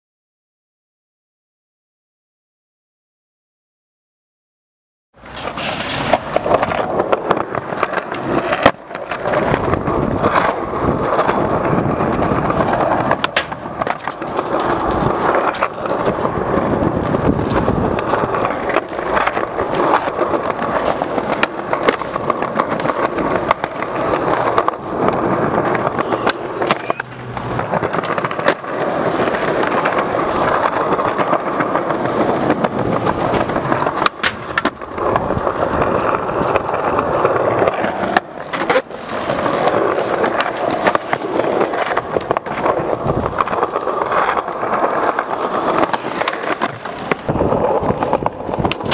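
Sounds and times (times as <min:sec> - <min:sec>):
skateboard clacking on ground: 0:05.2 - 0:48.9
skateboard wheels rolling: 0:05.2 - 0:48.9.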